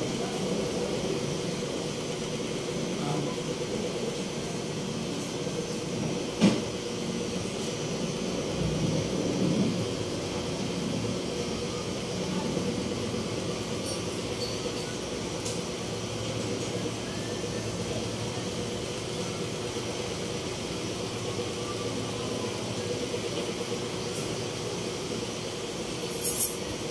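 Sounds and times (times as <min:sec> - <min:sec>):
mechanical hum: 0:00.0 - 0:26.9.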